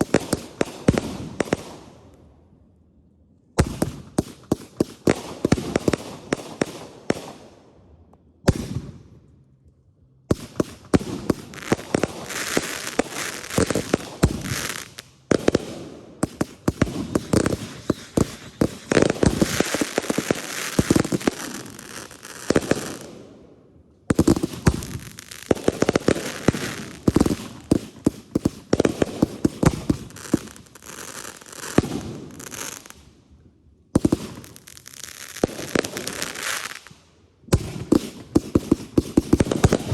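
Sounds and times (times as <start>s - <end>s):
fireworks bangs and crackling: 0.0s - 2.0s, 3.6s - 7.5s, 8.4s - 9.0s, 10.3s - 23.4s, 24.1s - 33.1s, 33.9s - 39.9s.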